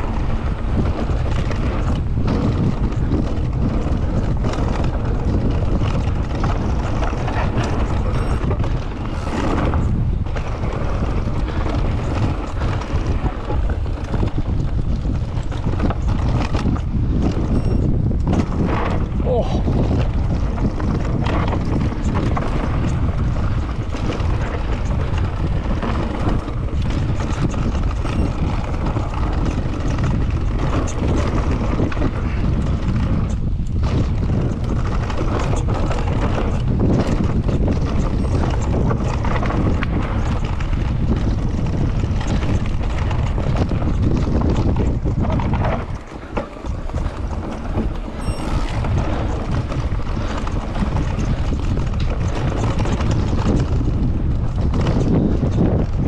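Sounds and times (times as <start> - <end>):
bike clicks and rattles: 0.0 - 56.0
tyres rumbling on dirt: 0.0 - 56.0
wind buffeting microphone: 0.0 - 56.0.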